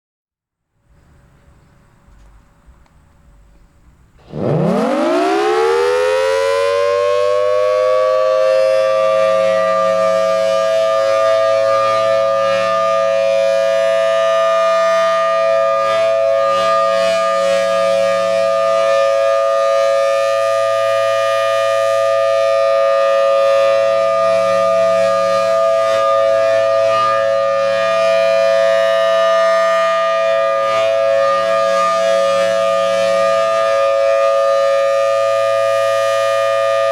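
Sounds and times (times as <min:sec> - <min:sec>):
warning siren steady tone: 0:04.2 - 0:36.9.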